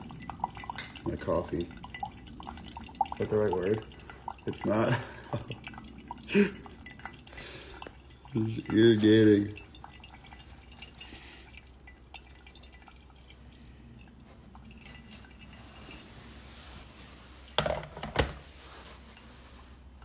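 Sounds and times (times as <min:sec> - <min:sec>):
water dripping: 0:00.0 - 0:17.6
water pouring over coffee grounds: 0:00.0 - 0:20.0.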